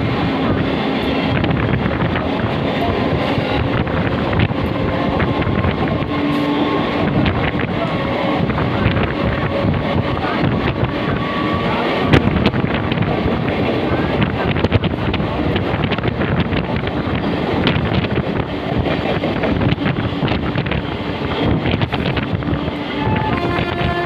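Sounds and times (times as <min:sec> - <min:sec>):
train wheels rumbling on rails: 0:00.0 - 0:24.0
wind buffeting microphone: 0:00.0 - 0:24.0.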